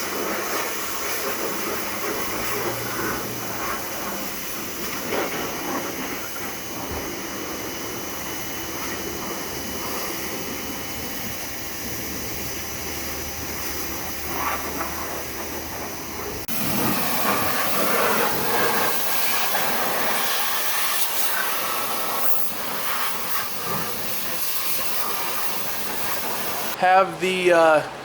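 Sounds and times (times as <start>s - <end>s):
pressure washer spraying: 0.0s - 26.8s
machine hum: 0.0s - 28.0s.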